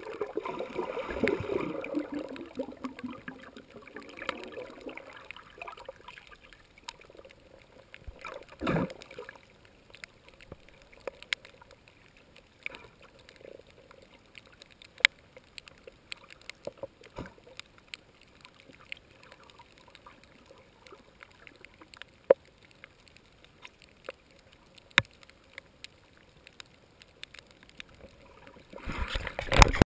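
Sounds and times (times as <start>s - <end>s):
muffled underwater wash: 0.0s - 29.8s
sharp clicks and crackles: 0.0s - 29.8s.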